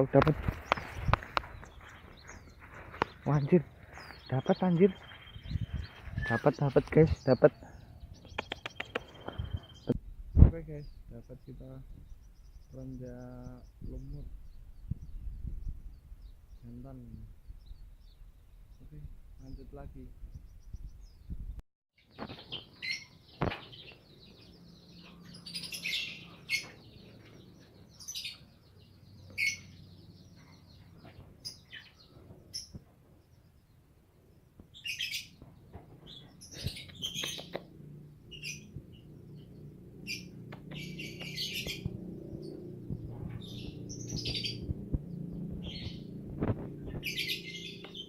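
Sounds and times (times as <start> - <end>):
small songbirds chirping: 0.0 - 48.0.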